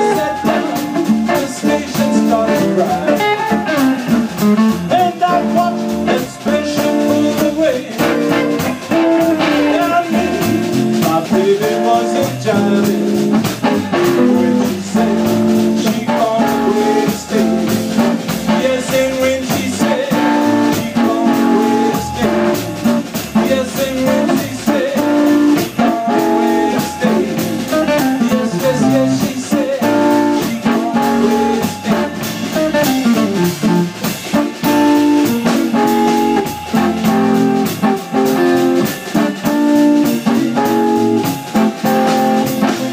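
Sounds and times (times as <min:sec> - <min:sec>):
drum kit: 0:00.0 - 0:42.9
electric guitars: 0:00.0 - 0:42.9
upright bass: 0:00.0 - 0:42.9.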